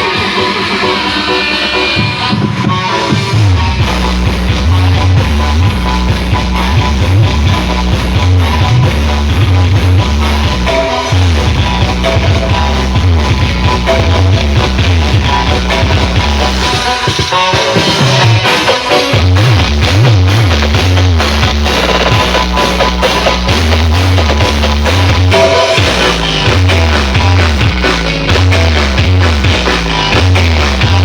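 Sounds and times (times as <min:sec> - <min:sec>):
heavy pulsing bass: 0:00.0 - 0:31.0
loud remixed music: 0:00.0 - 0:31.0.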